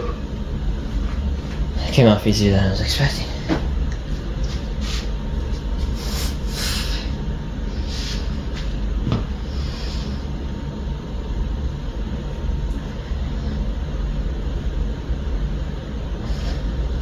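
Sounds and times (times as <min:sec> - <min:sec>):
fan or blower rumbling: 0:00.0 - 0:17.0.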